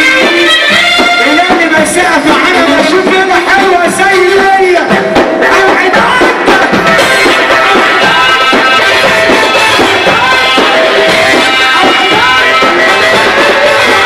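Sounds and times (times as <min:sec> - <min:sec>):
drum and tabla percussion: 0:00.0 - 0:14.0
wedding music with sliding melody: 0:00.0 - 0:14.0.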